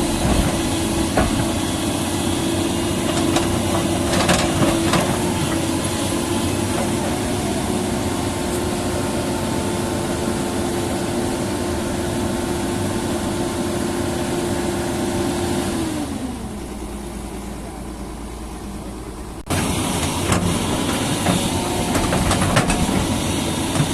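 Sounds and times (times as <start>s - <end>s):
excavator engine running: 0.0s - 23.9s.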